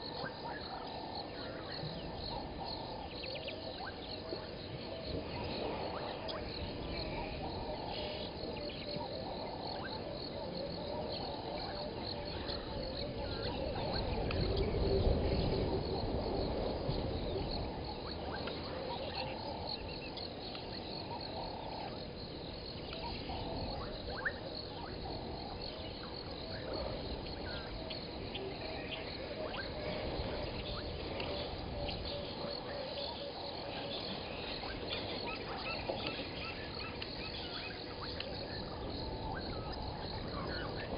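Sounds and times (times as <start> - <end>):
frogs and insects chorus: 0.0 - 40.9.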